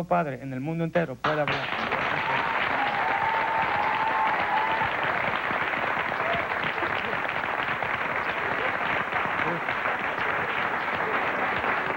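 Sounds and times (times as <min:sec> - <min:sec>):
audience applauding: 0:01.3 - 0:11.9.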